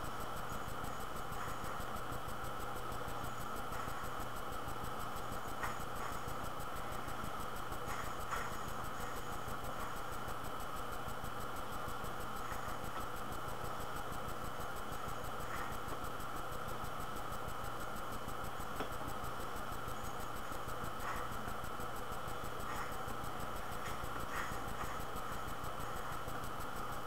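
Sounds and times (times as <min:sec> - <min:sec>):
faint hum: 0:00.0 - 0:27.0
steady background hiss: 0:00.0 - 0:27.0
thin high whine: 0:00.0 - 0:27.0.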